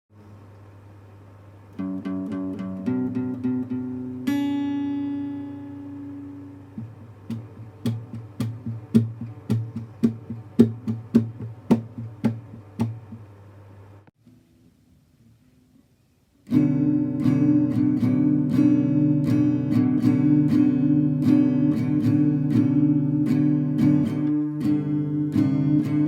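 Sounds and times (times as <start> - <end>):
plucked guitar: 1.7 - 13.3, 16.5 - 26.0.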